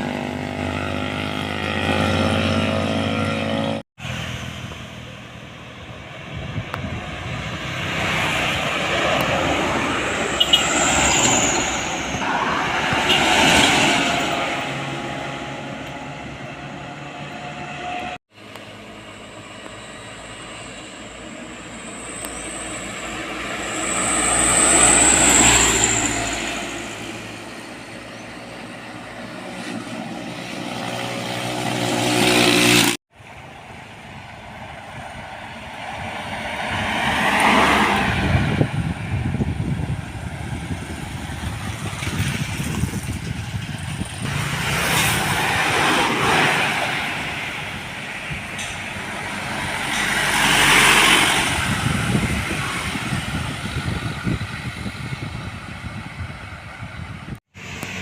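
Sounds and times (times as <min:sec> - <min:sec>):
heavy trucks passing: 0:00.0 - 0:58.0.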